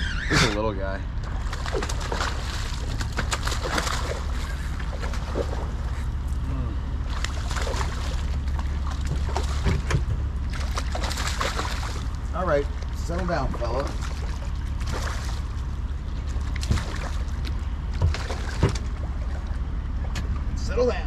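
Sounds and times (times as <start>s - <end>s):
steady low rumble: 0.0s - 21.0s
fish splashing at water surface: 1.2s - 6.2s, 7.0s - 20.1s.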